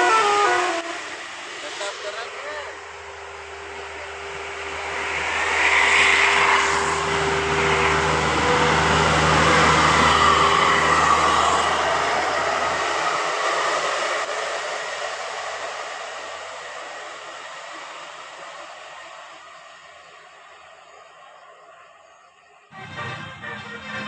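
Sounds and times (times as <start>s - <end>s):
bus driving past: 0.0s - 24.0s.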